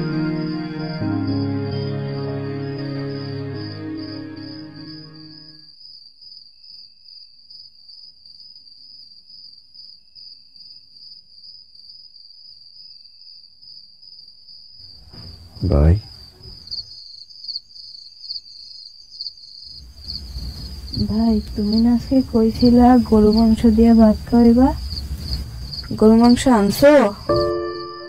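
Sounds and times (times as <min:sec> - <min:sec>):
crickets chirping: 0:00.0 - 0:28.0
higher insect trill: 0:00.0 - 0:28.0.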